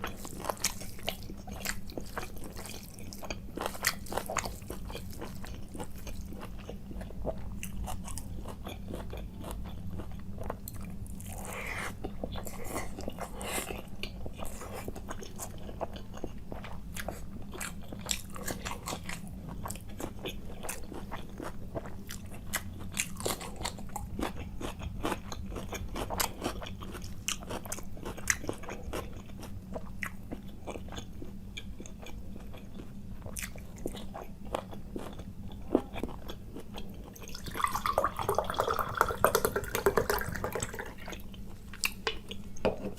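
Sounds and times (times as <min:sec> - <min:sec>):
person chewing and crunching: 0:00.0 - 0:42.9
steady low hum: 0:00.0 - 0:42.9.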